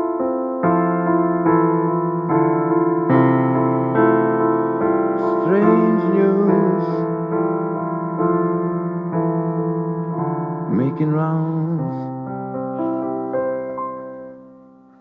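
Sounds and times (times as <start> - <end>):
keyboard playing sustained chords: 0.0 - 15.0.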